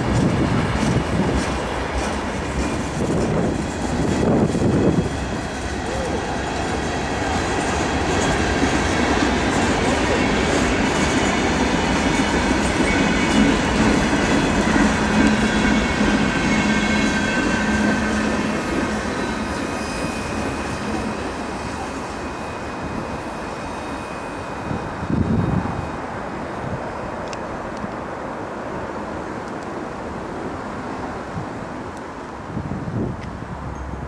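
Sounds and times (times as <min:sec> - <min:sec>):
train wheels rumbling on rails: 0:00.0 - 0:28.1.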